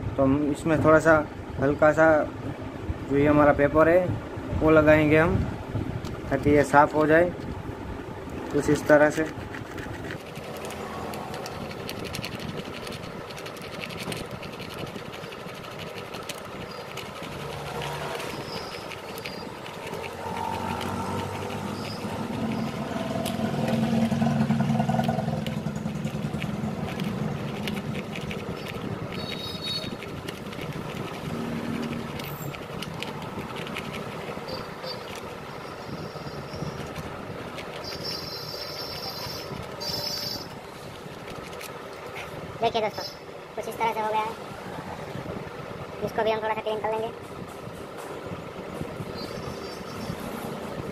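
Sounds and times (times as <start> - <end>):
vehicle engine: 2.2 - 50.9.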